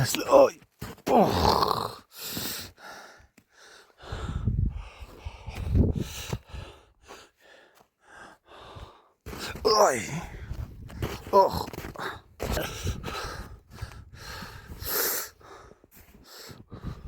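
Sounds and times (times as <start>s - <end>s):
person breathing hard and gasping: 1.5s - 9.4s, 10.3s - 17.0s.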